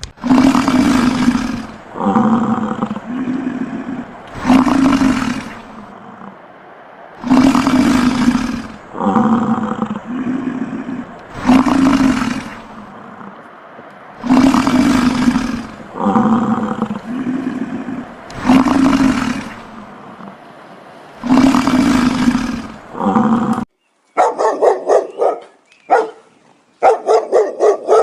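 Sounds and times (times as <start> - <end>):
large animal roaring: 0.2 - 23.7.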